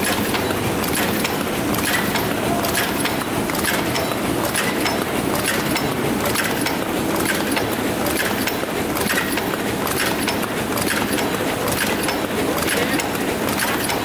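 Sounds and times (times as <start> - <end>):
machine clattering: 0.0 - 14.0.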